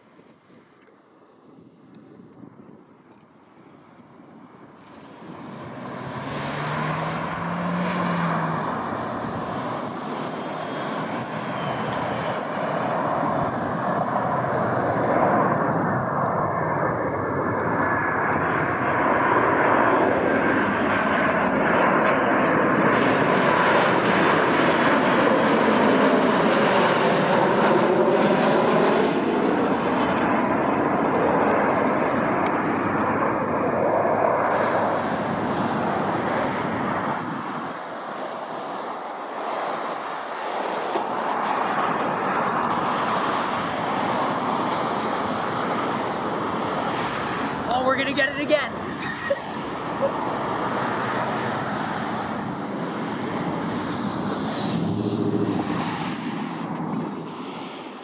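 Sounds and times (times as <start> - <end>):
airliner engines passing: 0.0 - 58.0.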